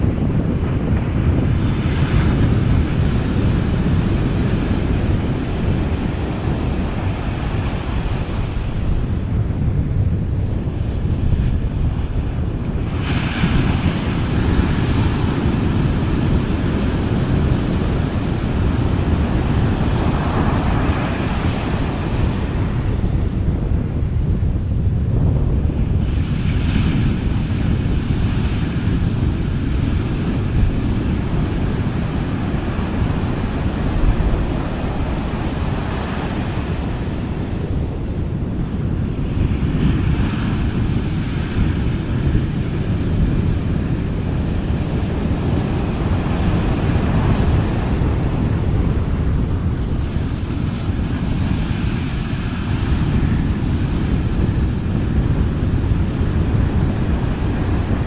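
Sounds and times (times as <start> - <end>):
low rumble of surf: 0.0 - 58.0
waves washing onto beach: 0.0 - 58.0
wind on microphone: 0.0 - 58.0.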